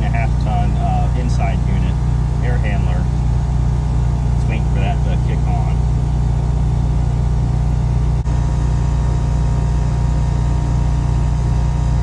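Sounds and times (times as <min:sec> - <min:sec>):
air conditioner condenser drone: 0:00.0 - 0:12.0
generator engine running: 0:00.0 - 0:12.0.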